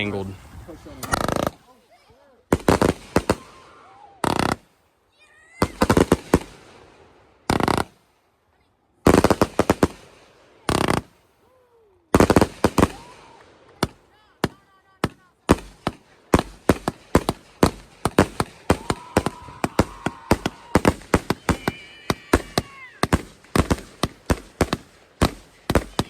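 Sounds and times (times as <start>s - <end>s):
fireworks cracks and bangs: 0.0s - 4.8s, 5.5s - 8.0s, 9.0s - 11.2s, 12.1s - 26.0s.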